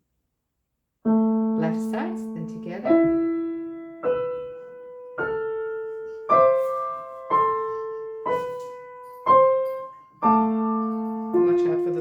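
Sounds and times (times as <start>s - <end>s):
slow piano chords: 1.1s - 12.0s.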